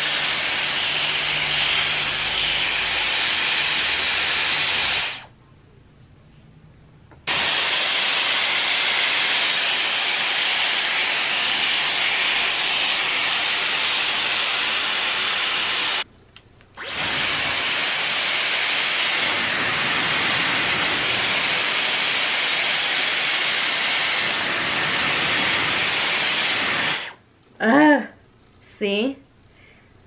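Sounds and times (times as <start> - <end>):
hair styler fan blowing air: 0.0 - 5.3, 7.2 - 16.1, 16.8 - 27.2.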